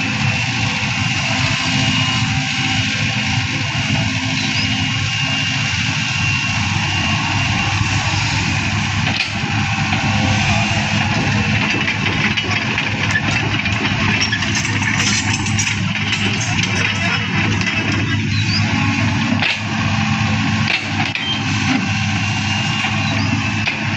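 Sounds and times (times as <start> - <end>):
heavy machine engine running: 0.0 - 23.9.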